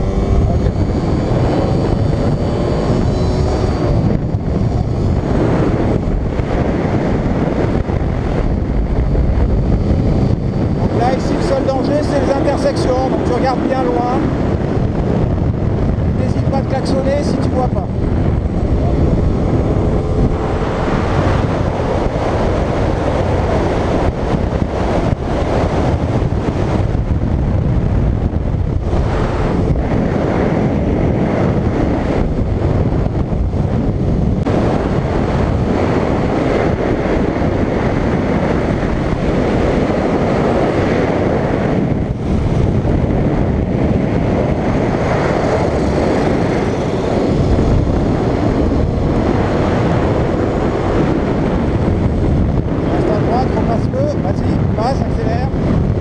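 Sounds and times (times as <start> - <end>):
motorcycle engine running: 0.0 - 52.8
wind rushing over microphone: 0.0 - 56.0.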